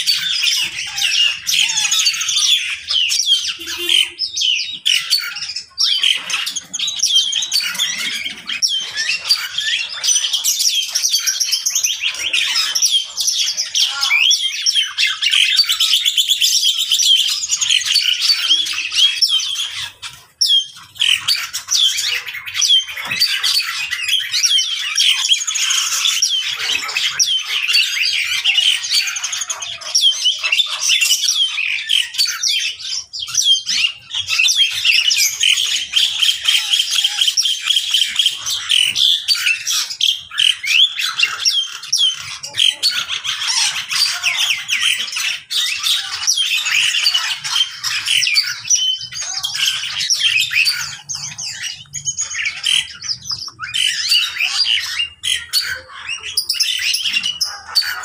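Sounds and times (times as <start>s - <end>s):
many birds calling: 0.0s - 58.0s.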